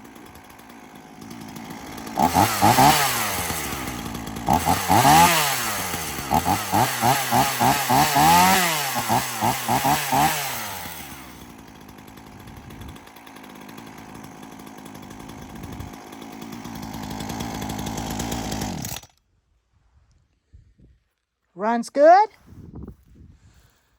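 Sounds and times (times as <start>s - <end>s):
chainsaw revving and idling: 0.0s - 19.2s.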